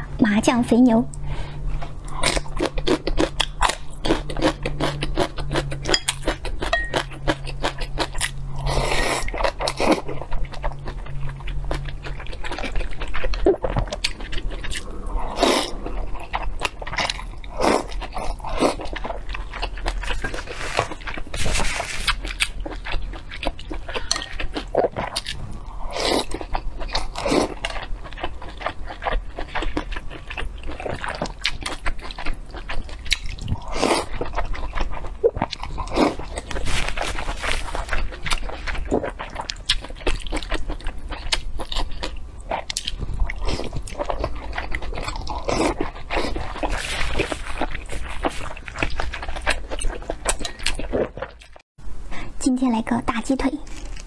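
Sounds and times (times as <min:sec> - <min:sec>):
crunchy chewing: 0:02.1 - 0:51.6, 0:53.6 - 0:54.0.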